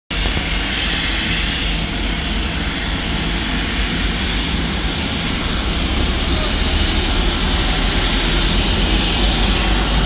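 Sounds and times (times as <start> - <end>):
jet engine noise: 0.1 - 10.0
low hum: 0.2 - 10.0.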